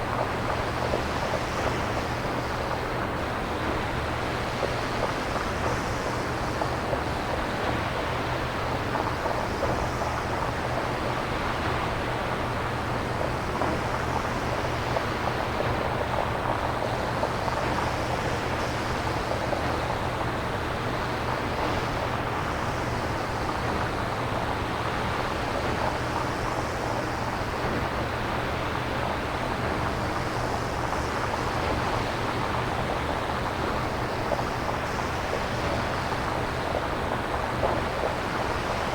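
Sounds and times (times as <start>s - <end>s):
synthesized surf-like hiss: 0.0s - 38.9s.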